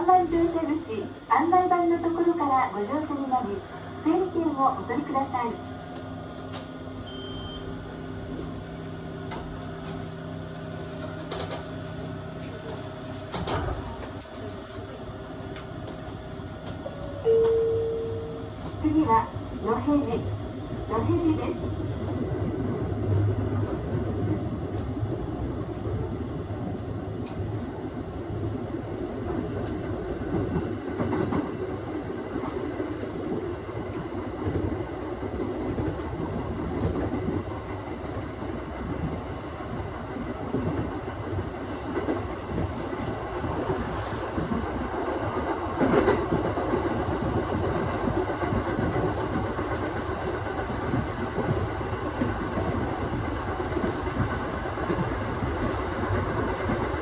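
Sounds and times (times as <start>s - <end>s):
train wheels rumbling on rails: 8.3s - 57.0s.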